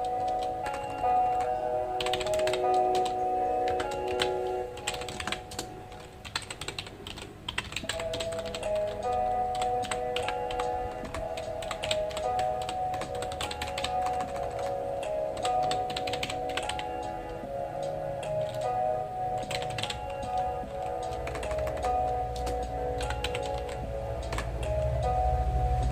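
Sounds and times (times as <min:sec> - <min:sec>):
typing on a computer keyboard: 0:00.0 - 0:24.8
soft background music: 0:00.0 - 0:25.9.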